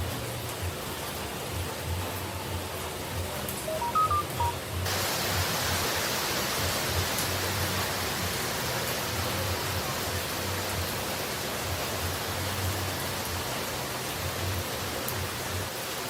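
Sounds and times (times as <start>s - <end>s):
falling water rushing: 0.0s - 16.0s.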